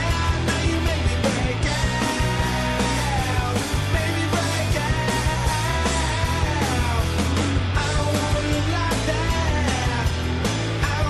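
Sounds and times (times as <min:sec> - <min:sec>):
person singing: 0:00.0 - 0:07.2, 0:07.8 - 0:11.0
distorted guitar: 0:00.0 - 0:11.0
drums: 0:00.0 - 0:11.0.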